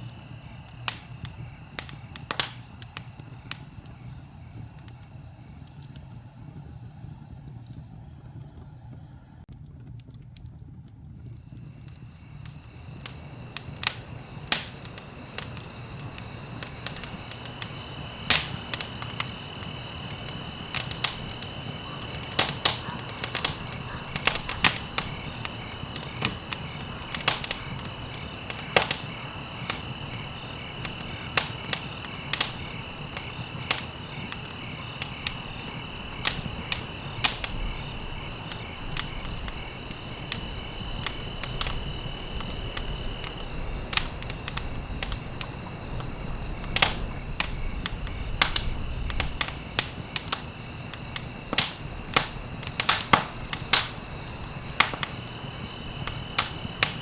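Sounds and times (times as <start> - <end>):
crickets trilling: 0.0 - 57.0
wood fire crackling and popping: 0.0 - 57.0.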